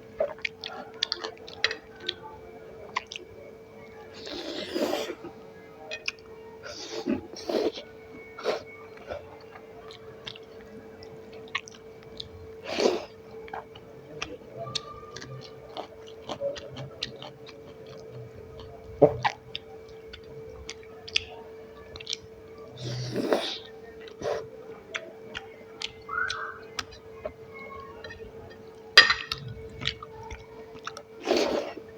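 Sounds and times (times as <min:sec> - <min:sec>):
faint steady hum: 0:00.0 - 0:31.9
person chewing: 0:00.2 - 0:02.2, 0:02.9 - 0:03.2, 0:04.2 - 0:21.3, 0:22.0 - 0:27.0, 0:29.0 - 0:31.9.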